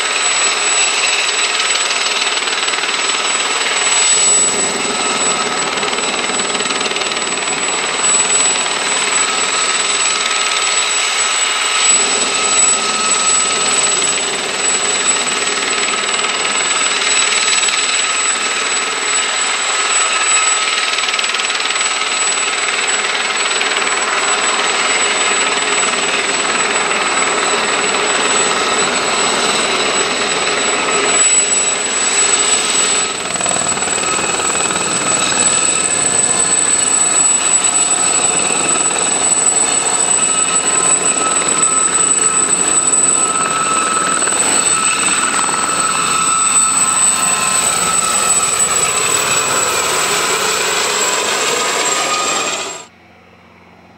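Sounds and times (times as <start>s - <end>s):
helicopter engine whine: 0.0s - 53.9s
helicopter rotor noise: 0.0s - 53.9s.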